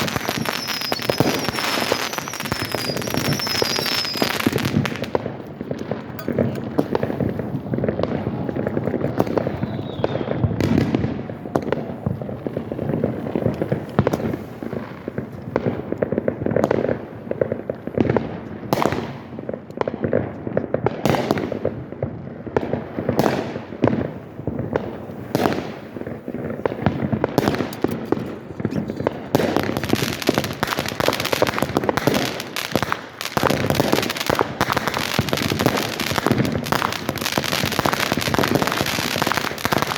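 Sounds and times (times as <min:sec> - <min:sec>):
fireworks bangs and pops: 0:00.0 - 0:39.9.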